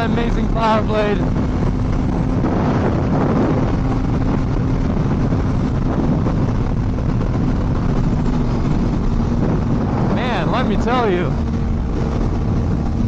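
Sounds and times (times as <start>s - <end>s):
motorcycle engine cruising: 0.0s - 13.0s
wind noise on microphone: 0.0s - 13.0s.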